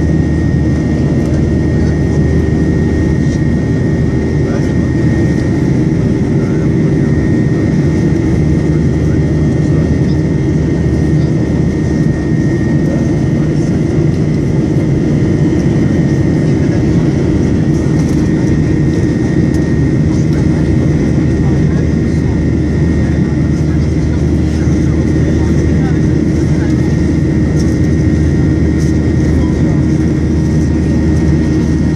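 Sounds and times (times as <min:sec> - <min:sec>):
jet engine roar in cabin: 0:00.0 - 0:31.9.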